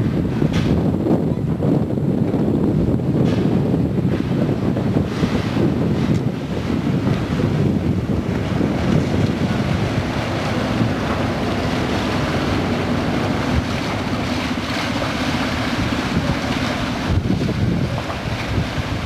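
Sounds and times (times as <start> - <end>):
boat engine humming: 0.0 - 19.0
choppy water: 0.0 - 19.0
wind buffeting microphone: 0.0 - 19.0.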